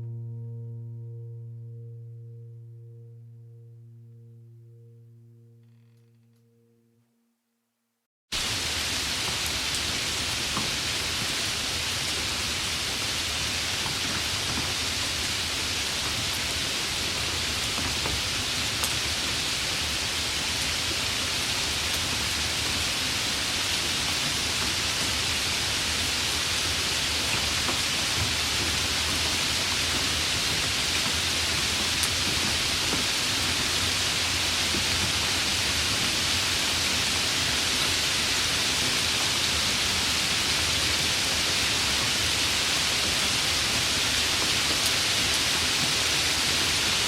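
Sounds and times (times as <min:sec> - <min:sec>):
steady rainfall: 0:08.4 - 0:47.0.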